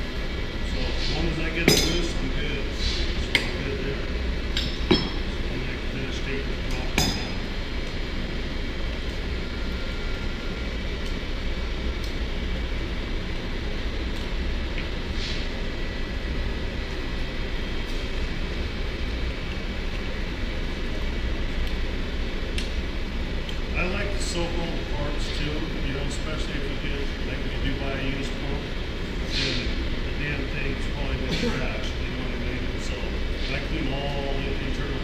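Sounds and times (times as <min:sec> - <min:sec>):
mechanical noise with low hum: 0:00.0 - 0:35.0.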